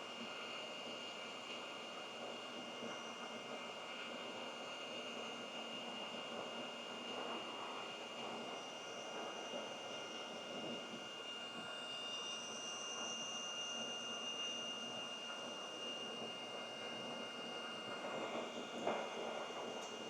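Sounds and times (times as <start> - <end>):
thin high whine: 2.8 - 20.0.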